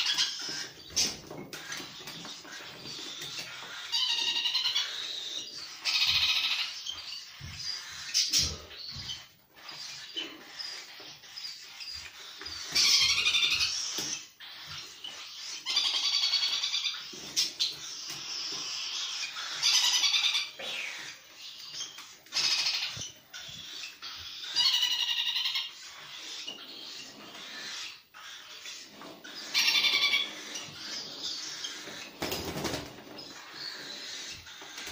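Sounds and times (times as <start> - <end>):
parrots chattering: 0.0 - 34.9
parrots squawking: 0.0 - 34.9.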